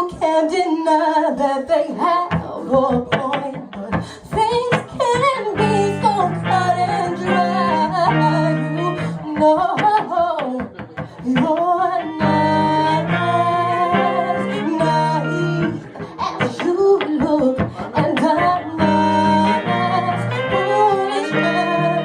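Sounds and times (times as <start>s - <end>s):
person singing slow song: 0.0s - 22.0s
guitar accompaniment: 1.9s - 22.0s.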